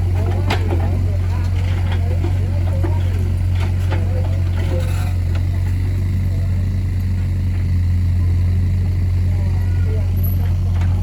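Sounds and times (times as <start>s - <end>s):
excavator diesel engine droning: 0.0s - 11.0s.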